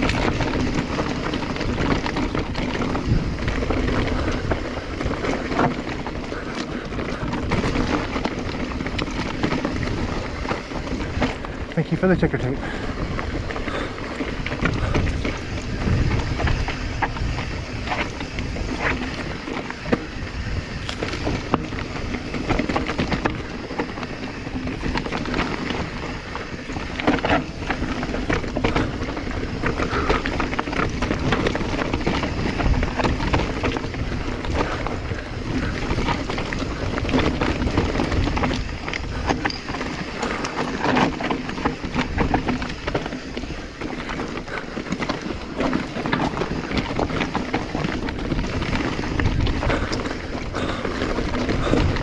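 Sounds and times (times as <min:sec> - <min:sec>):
bike rattling: 0:00.0 - 0:52.0
tyres crunching on dirt and rocks: 0:00.0 - 0:52.0
wind buffeting microphone: 0:00.0 - 0:52.0.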